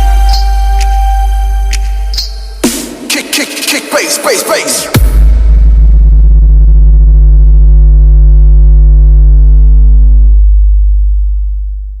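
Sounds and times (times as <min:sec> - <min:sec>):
synthesizer bass note: 0:00.0 - 0:03.1, 0:04.8 - 0:12.0.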